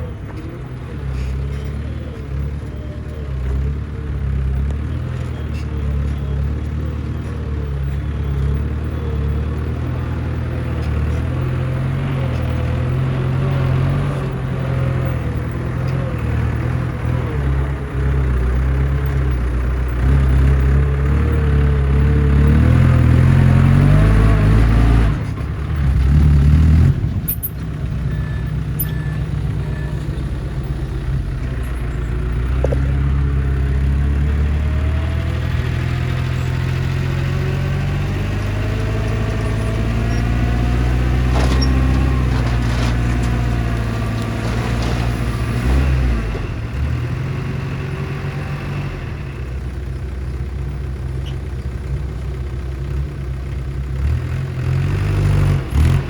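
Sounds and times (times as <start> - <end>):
diesel construction machinery running: 0.0 - 56.0.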